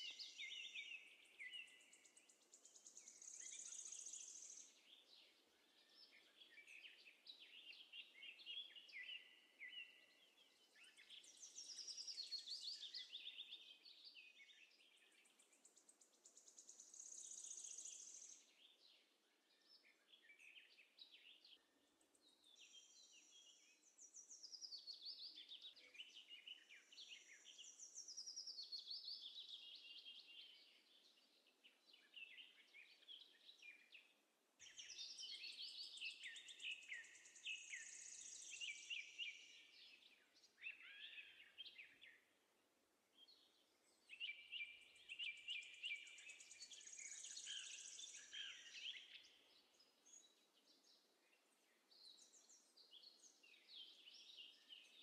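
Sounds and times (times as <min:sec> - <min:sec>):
faint birdsong twittering: 0:00.0 - 0:55.0.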